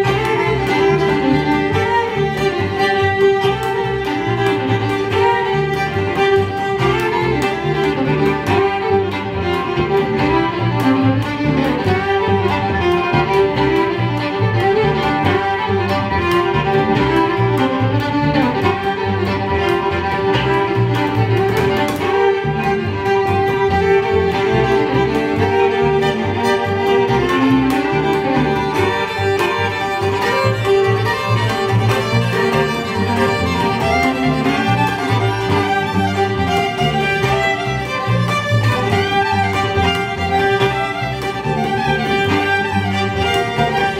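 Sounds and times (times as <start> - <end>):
fiddles playing: 0.0 - 43.9
plucked upright bass: 0.0 - 43.9.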